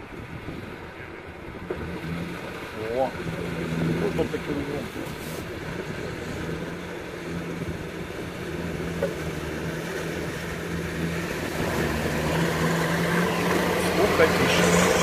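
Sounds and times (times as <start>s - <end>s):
vehicle engine humming: 0.4s - 15.0s.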